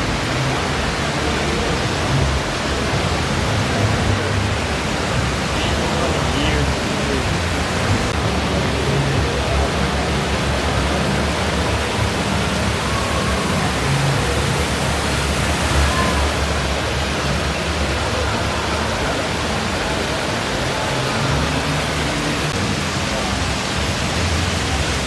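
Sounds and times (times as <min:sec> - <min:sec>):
faint voices murmuring: 0:00.0 - 0:25.0
waterfall rushing: 0:00.0 - 0:25.0.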